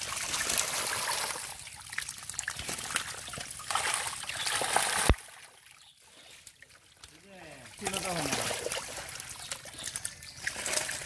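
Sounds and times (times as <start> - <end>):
catfish splashing in water: 0.0 - 5.8, 6.6 - 11.0.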